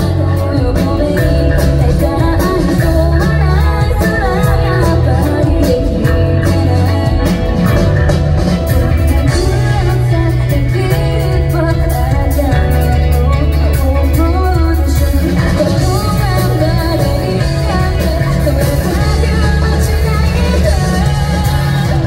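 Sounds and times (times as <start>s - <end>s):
live rock band playing: 0.0s - 22.0s
woman singing: 0.0s - 22.0s.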